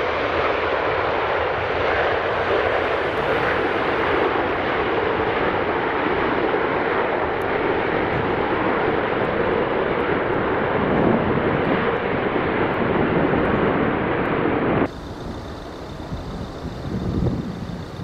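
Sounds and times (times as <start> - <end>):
jet engine rush: 0.0 - 18.0.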